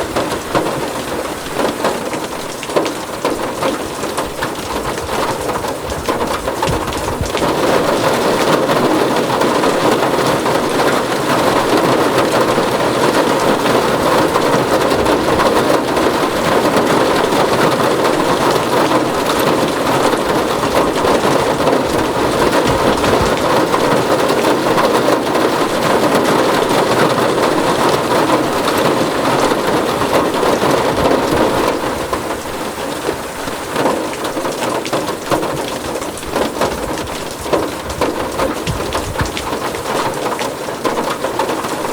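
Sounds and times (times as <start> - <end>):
heavy rain on a tin roof: 0.0 - 41.9.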